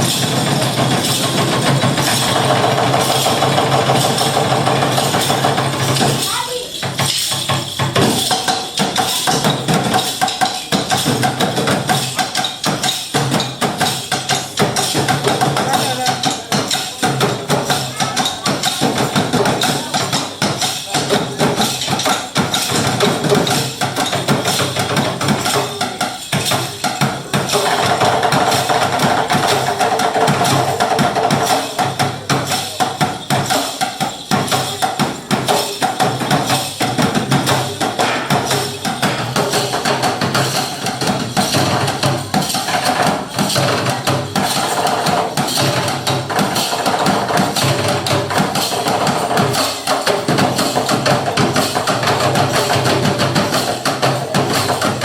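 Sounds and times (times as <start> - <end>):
fast percussion knocks and clicks: 0.0 - 55.0.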